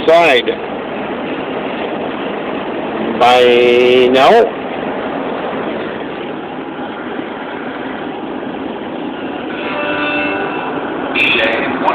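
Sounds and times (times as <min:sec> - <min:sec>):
vehicle running rumble: 0:00.0 - 0:11.9.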